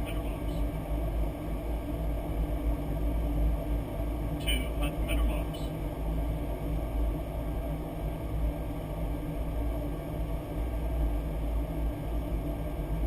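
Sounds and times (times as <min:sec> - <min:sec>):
cockpit engine and airflow rumble: 0:00.0 - 0:13.0.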